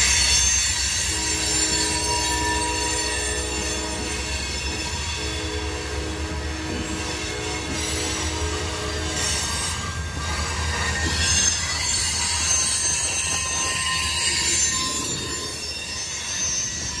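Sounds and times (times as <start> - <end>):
rumble of train cars: 0.0 - 17.0
train wheel squeal: 0.0 - 17.0.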